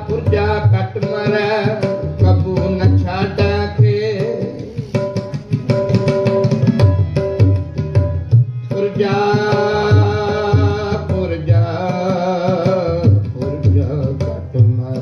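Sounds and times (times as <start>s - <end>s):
harmonium melody: 0.0s - 15.0s
tabla rhythm: 0.0s - 15.0s.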